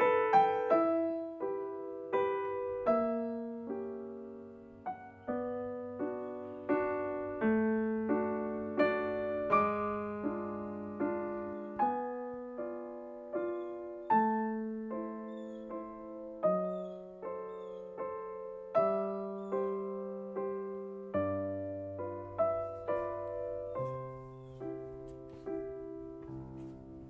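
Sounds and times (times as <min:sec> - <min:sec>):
slow gentle solo piano: 0:00.0 - 0:27.0.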